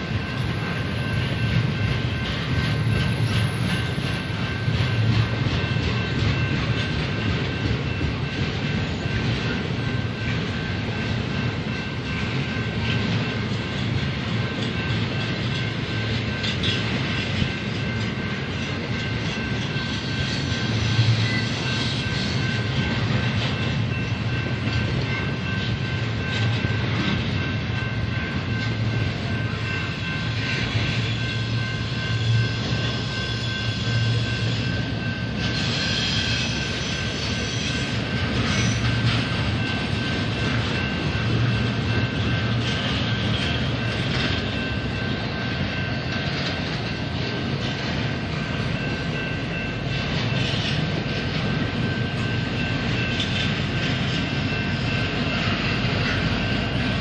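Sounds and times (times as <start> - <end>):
high ringing tone: 0.0 - 57.0
train wheels rumbling on rail: 0.0 - 57.0.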